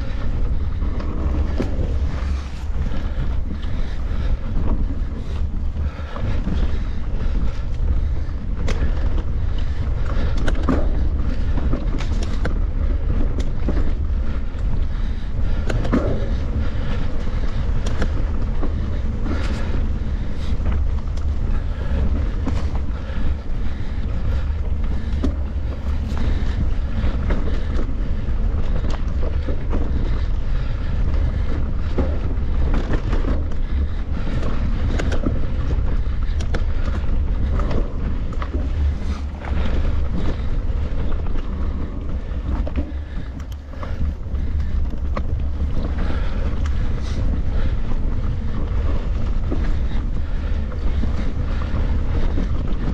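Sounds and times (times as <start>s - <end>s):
bike rattling over rough trail: 0.0s - 52.9s
wind buffeting microphone: 0.0s - 52.9s.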